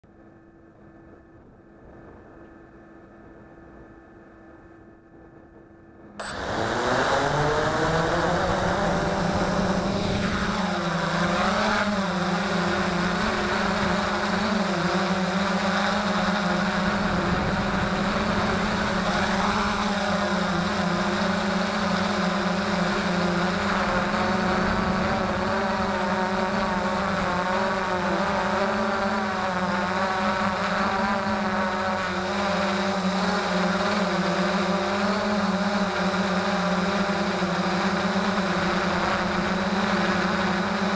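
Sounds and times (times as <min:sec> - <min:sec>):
drone motors whining: 0:00.8 - 0:40.9.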